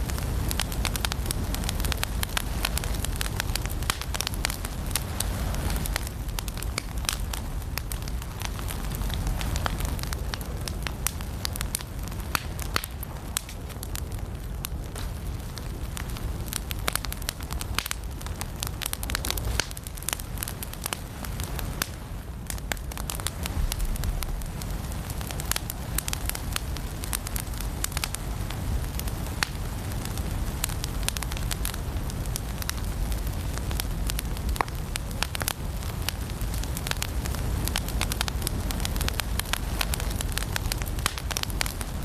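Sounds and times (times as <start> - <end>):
fire crackling and popping: 0.0 - 42.0
low rumble of fire: 0.0 - 42.0.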